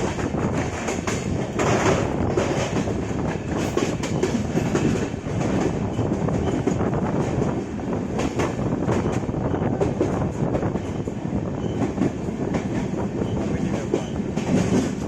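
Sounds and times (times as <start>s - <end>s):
train clicks and rattles: 0.0s - 15.0s
train wheels rumbling on rail: 0.0s - 15.0s.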